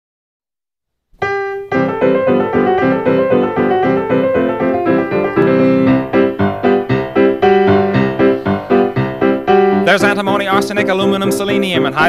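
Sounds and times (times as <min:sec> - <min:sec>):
piano chords: 0:01.2 - 0:12.0.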